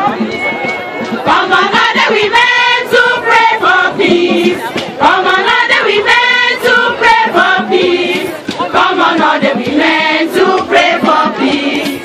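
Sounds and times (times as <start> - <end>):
women singing together: 1.2 - 12.0.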